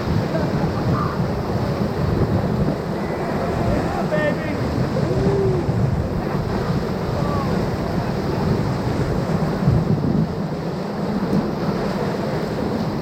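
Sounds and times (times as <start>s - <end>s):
rushing whitewater: 0.0s - 13.0s
wind buffeting microphone: 0.0s - 13.0s.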